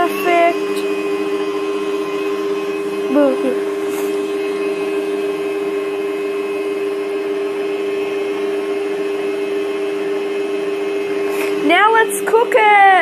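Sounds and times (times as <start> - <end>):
electric mixer motor humming: 0.0 - 13.0.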